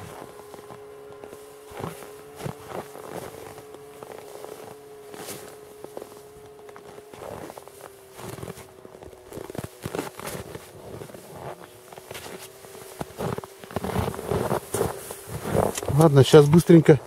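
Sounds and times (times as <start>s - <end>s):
boots crunching on snow: 0.0s - 17.0s
steady humming tone: 0.0s - 17.0s.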